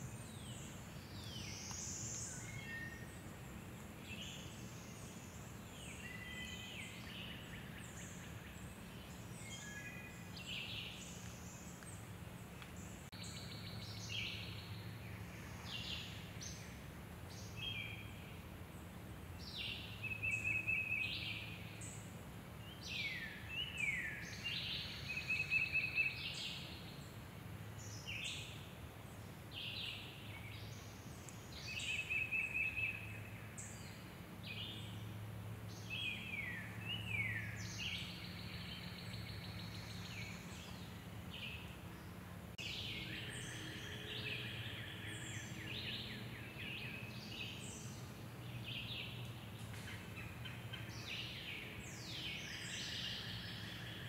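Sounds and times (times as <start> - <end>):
songbird singing with trill: 0.0 - 3.2, 4.0 - 11.9, 12.8 - 18.4, 19.4 - 22.0, 22.6 - 27.1, 29.5 - 54.0
low steady background hum: 0.0 - 54.0.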